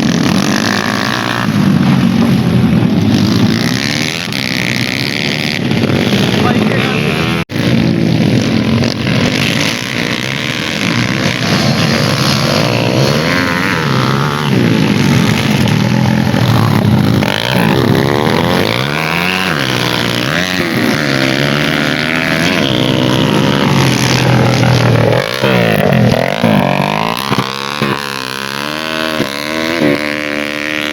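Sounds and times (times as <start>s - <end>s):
dirt-bike engines revving: 0.0s - 30.9s.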